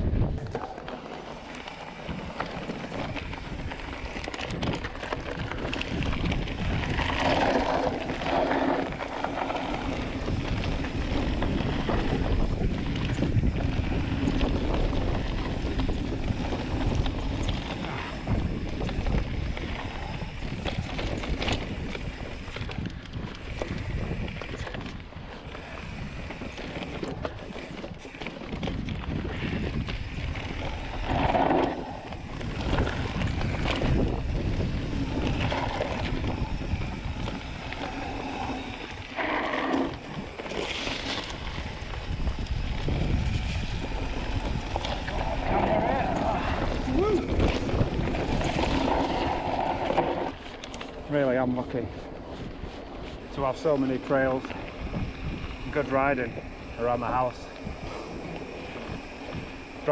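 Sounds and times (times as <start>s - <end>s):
bike rattling over bumps: 0.0s - 59.9s
tyres rolling on dirt: 0.0s - 59.9s
wind rushing over microphone: 0.0s - 59.9s.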